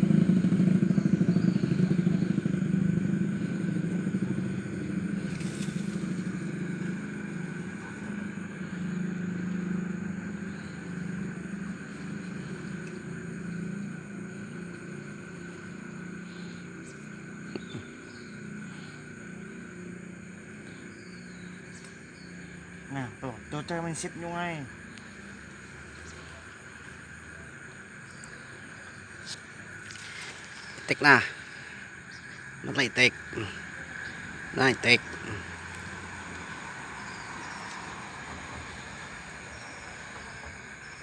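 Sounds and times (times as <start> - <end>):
motor engine running: 0.0 - 27.0, 29.4 - 41.0.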